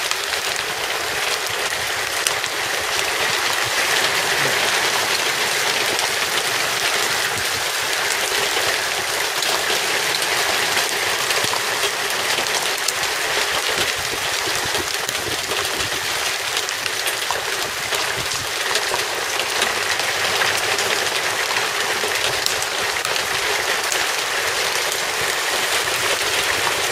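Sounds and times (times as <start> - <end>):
rain and hail pattering: 0.0 - 26.9.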